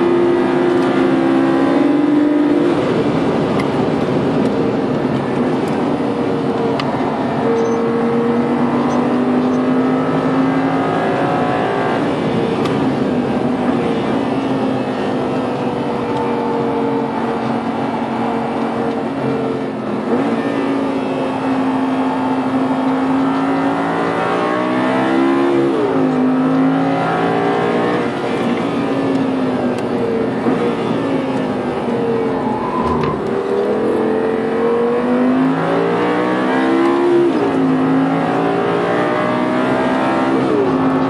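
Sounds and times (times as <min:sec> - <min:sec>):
car engine revving through gears: 0:00.0 - 0:41.0.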